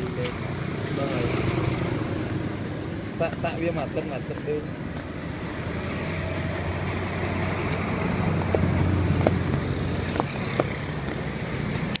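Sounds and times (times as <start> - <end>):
street traffic engine hum: 0.0 - 12.0.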